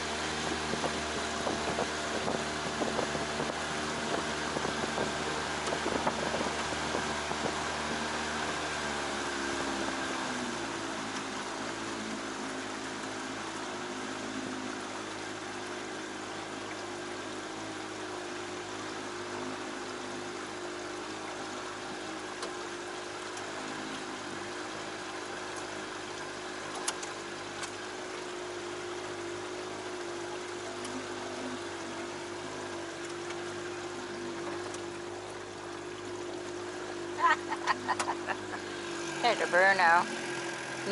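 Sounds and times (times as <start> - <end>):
boat motor humming: 0.0 - 40.9.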